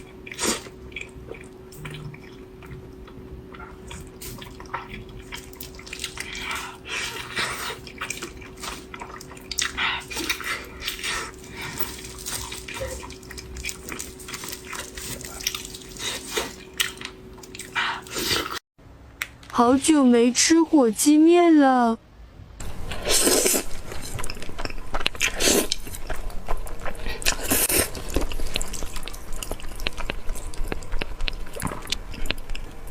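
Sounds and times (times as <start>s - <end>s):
wet chewing and smacking: 0.0s - 18.6s, 22.9s - 32.9s
faint steady hum: 0.0s - 32.9s.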